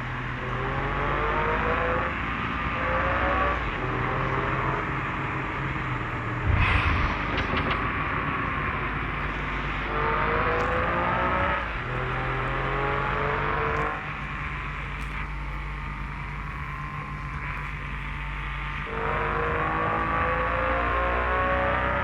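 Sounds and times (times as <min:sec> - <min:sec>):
engine accelerating: 0:00.0 - 0:22.0
road hum: 0:00.0 - 0:22.0.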